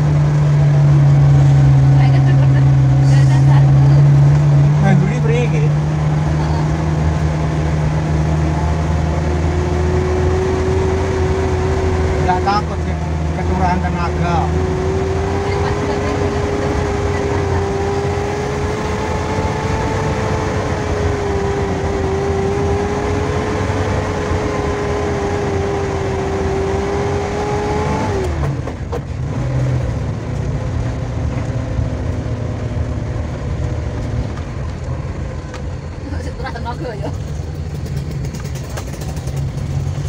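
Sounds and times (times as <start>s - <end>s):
high engine whine: 0.0s - 40.0s
van engine drone: 0.0s - 40.0s.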